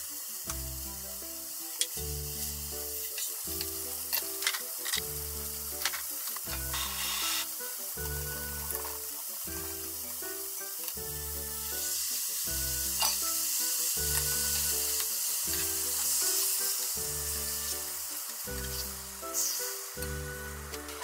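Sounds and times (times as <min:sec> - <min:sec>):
background music with bass line: 0:00.0 - 0:21.0
meat sizzling in a frying pan: 0:00.0 - 0:21.0.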